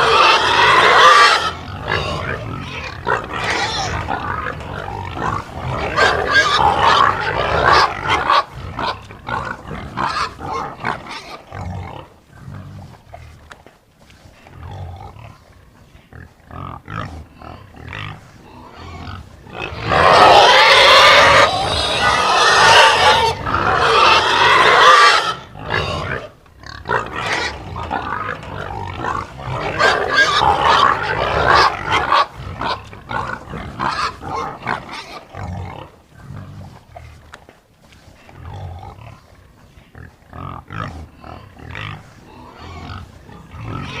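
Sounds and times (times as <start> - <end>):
pigs squealing: 0.0 - 12.1, 16.5 - 36.6, 40.0 - 44.0
pigs grunting and snorting: 0.0 - 44.0.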